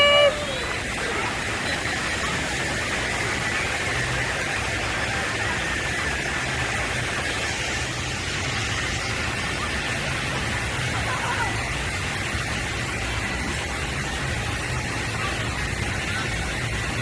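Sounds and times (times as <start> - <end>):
water rushing down a slide: 0.0 - 17.0.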